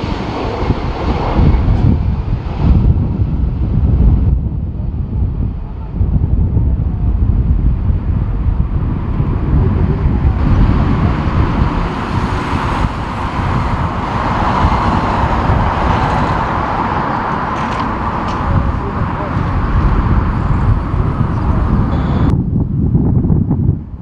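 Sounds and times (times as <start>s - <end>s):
jet airliner engine noise: 0.0s - 24.0s
wind buffeting microphone: 0.0s - 24.0s.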